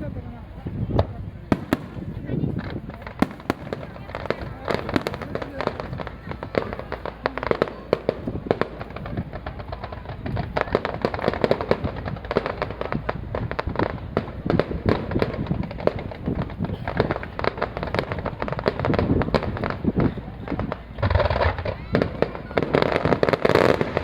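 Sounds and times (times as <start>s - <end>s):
fireworks popping and crackling: 0.0s - 24.0s
fireworks rumble: 0.0s - 24.0s.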